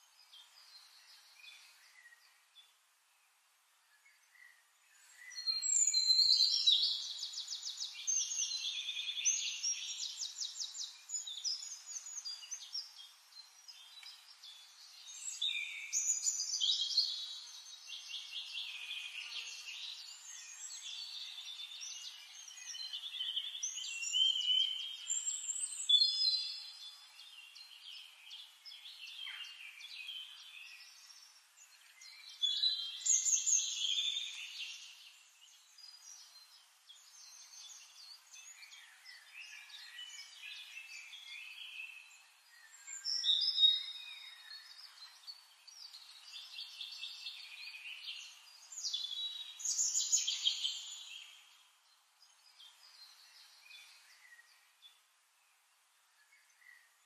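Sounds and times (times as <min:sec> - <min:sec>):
forest birds trilling song: 0:00.0 - 0:57.0
quieter bird calls: 0:04.0 - 0:55.0.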